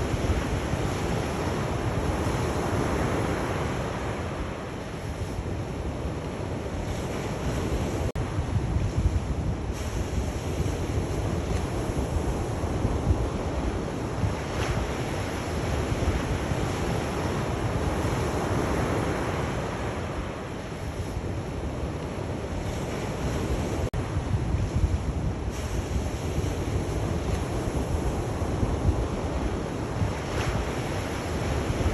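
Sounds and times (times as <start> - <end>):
sea waves washing onto shore: 0.0 - 31.9.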